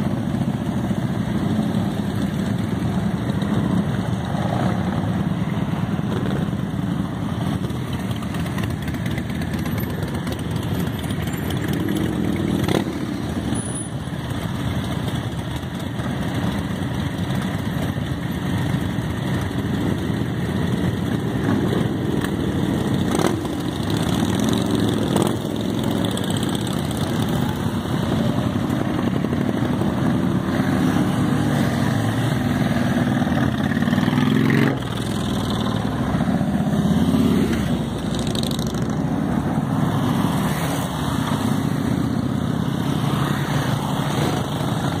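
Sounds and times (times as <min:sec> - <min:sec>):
motorcycles riding past: 0:00.0 - 0:45.0.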